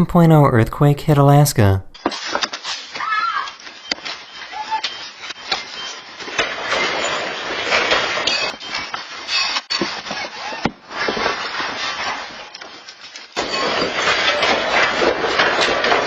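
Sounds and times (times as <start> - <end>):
building and objects rattling: 2.0 - 16.0.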